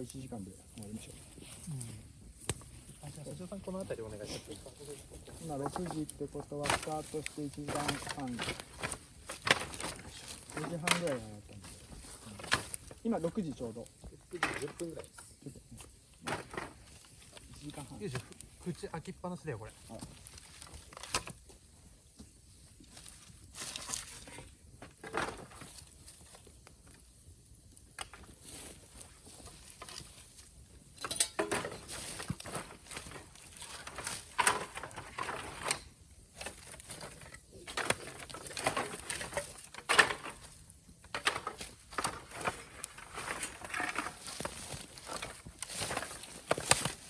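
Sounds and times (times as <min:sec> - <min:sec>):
bonfire crackling and snapping: 0:00.0 - 0:47.0.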